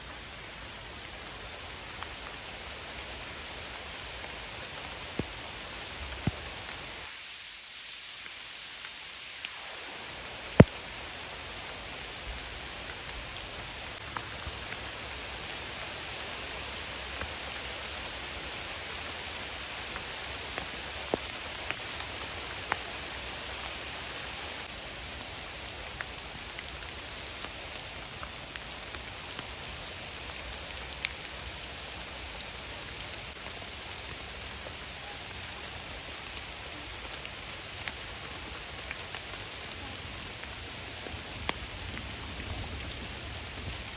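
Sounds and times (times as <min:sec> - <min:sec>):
rain hissing: 0:00.0 - 0:43.9
ticks of raindrops: 0:00.0 - 0:43.9.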